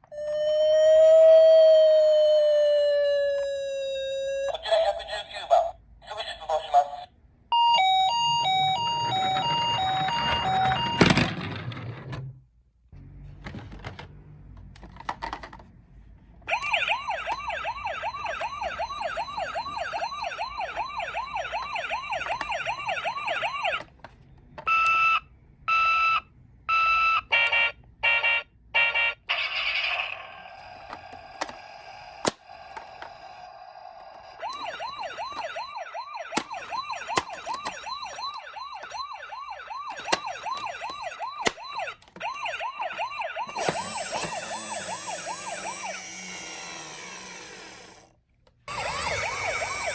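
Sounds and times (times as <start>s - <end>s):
toy electronic sirens: 0.0s - 5.1s, 7.5s - 11.3s, 16.5s - 23.9s, 24.7s - 49.9s.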